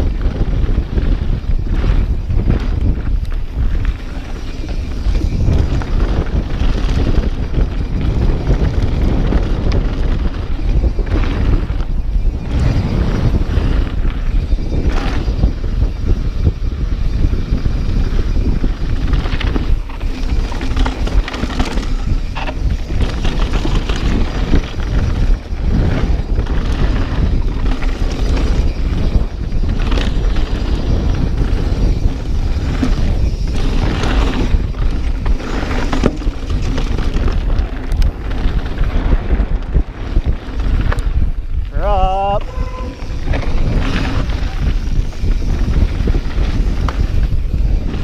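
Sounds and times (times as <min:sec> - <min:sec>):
bike tyre noise and rattle: 0:00.0 - 0:48.0
wind rushing over microphone: 0:00.0 - 0:48.0.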